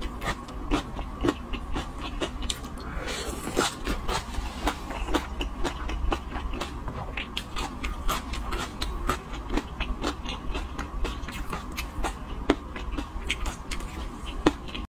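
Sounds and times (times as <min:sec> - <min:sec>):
low steady hum: 0:00.0 - 0:14.9
wet chewing mouth clicks: 0:00.0 - 0:14.9.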